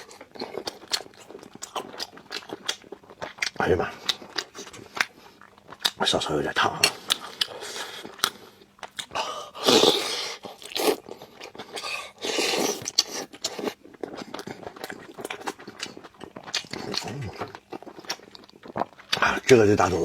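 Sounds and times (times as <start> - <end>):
wet chewing and lip smacking: 0.0 - 9.2, 9.8 - 19.8.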